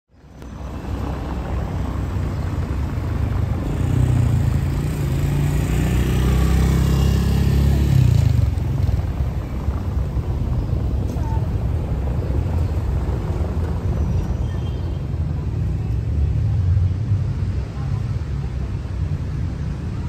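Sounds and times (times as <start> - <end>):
vehicle engine running: 0.4 - 20.0.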